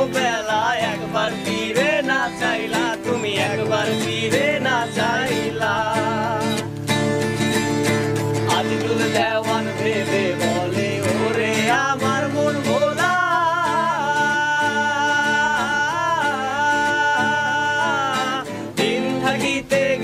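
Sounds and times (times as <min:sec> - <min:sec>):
man singing: 0:00.0 - 0:06.8, 0:08.4 - 0:20.0
guitar accompaniment: 0:00.0 - 0:20.0.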